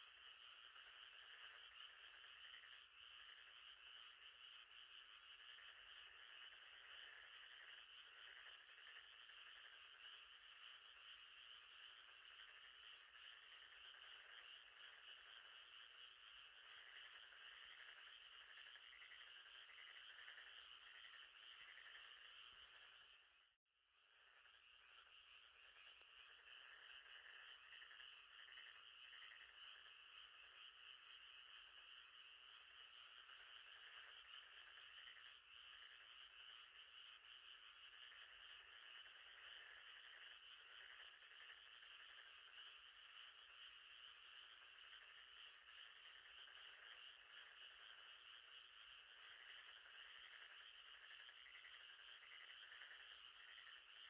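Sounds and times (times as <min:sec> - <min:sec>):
frogs trilling: 0:00.0 - 0:54.0.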